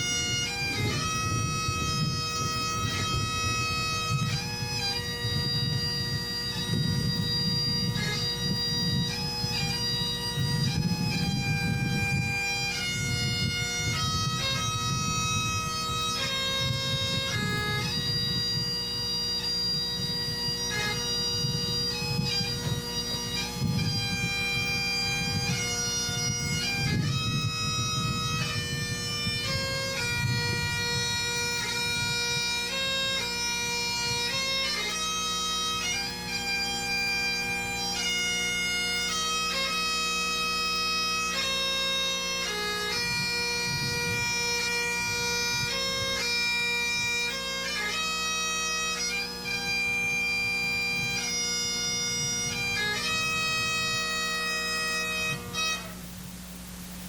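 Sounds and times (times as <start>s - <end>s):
bagpipes playing slow melody: 0.0s - 57.0s.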